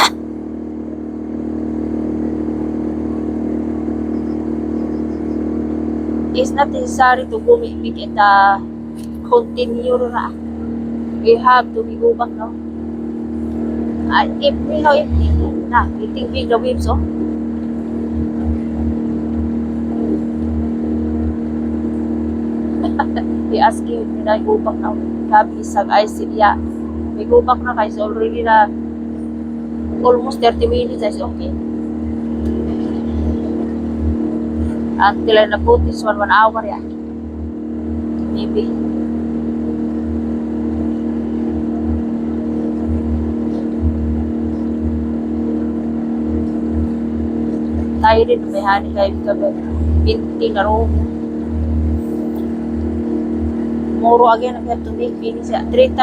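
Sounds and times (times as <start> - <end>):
boat engine humming: 0.0 - 56.0
low rumble: 0.0 - 56.0.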